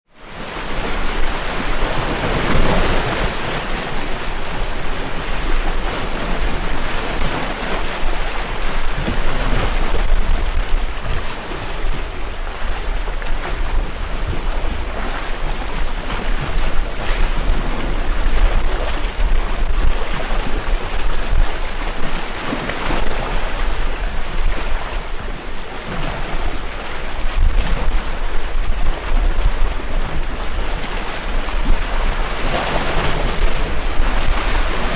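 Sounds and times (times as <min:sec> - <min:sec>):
waves breaking on rocky shore: 0:00.2 - 0:34.9
wind buffeting microphone: 0:00.2 - 0:34.9.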